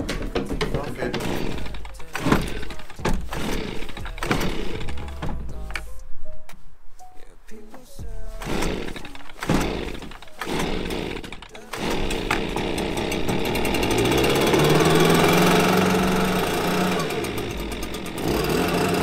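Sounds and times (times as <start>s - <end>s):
leaf blower engine revving: 0.0s - 5.4s, 8.3s - 19.0s
starter cord pulls: 0.0s - 5.9s, 8.4s - 19.0s.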